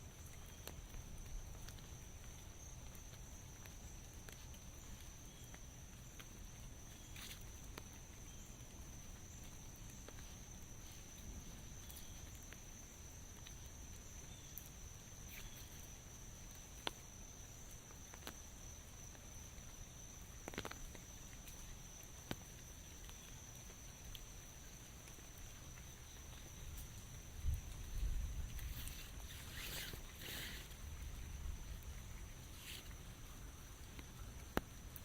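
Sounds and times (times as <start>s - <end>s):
light rain falling: 0.0s - 35.0s.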